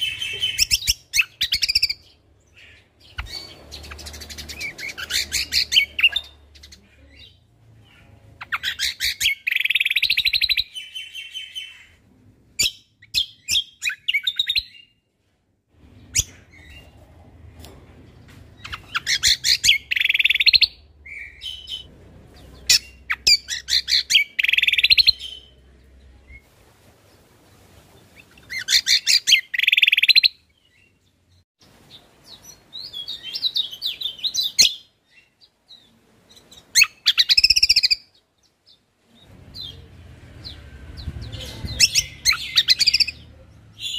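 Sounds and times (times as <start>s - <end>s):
songbird chattering song: 0.0s - 12.0s, 18.5s - 26.4s, 28.1s - 43.9s.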